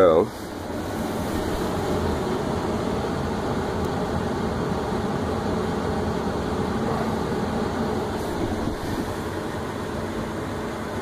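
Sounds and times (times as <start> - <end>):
air handler blower running: 0.0 - 11.0.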